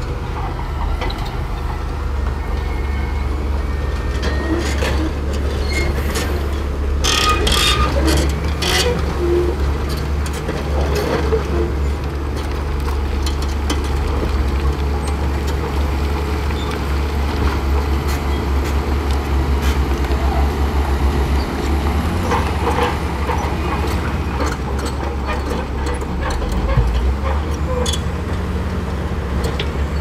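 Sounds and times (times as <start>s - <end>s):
bulldozer diesel engine running: 0.0s - 30.0s
steel tracks clanking: 0.0s - 30.0s.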